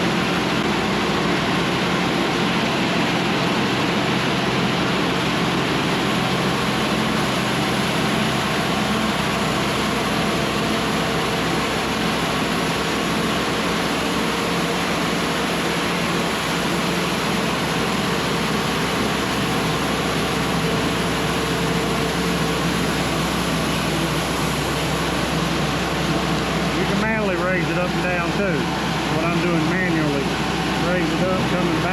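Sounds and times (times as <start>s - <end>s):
band sawmill running: 0.0s - 31.9s.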